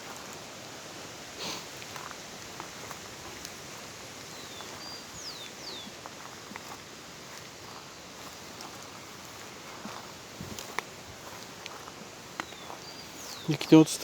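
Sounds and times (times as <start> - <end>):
footsteps rustling underfoot: 0.0 - 14.0.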